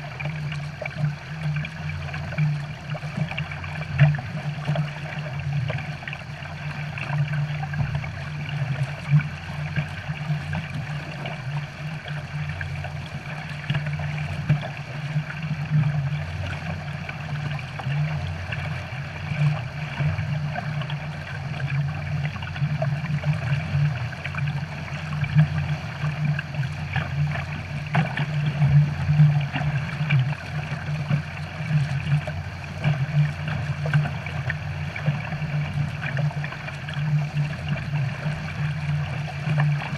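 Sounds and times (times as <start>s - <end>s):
water rushing and splashing: 0.0s - 39.9s
watercraft engine running: 0.0s - 39.9s.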